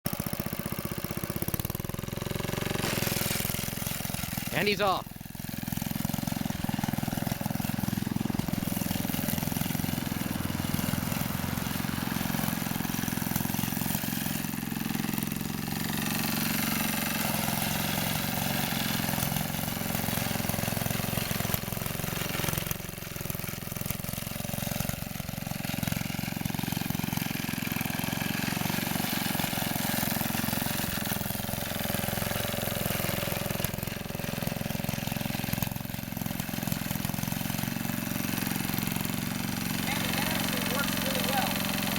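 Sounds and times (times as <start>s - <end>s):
lawn mower engine running: 0.1s - 41.9s.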